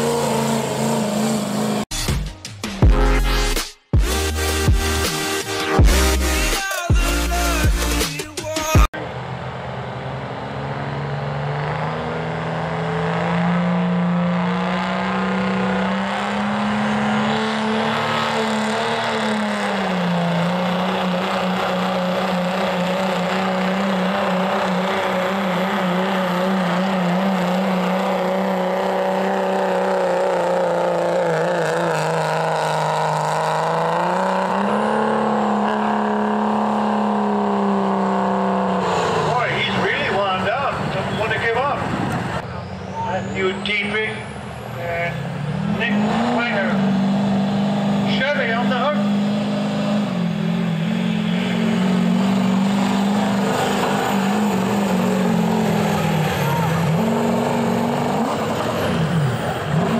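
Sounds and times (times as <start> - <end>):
diesel engine revving hard: 0.0 - 1.9, 9.0 - 59.9.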